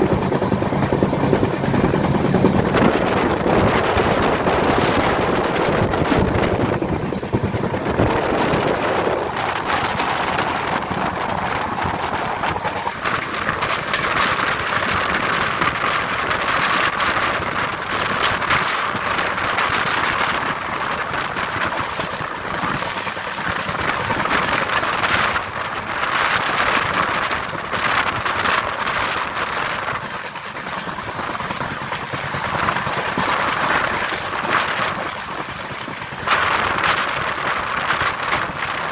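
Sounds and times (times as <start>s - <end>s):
rattles and clatters: 0.0s - 38.9s
train wheels on rail: 0.0s - 38.9s.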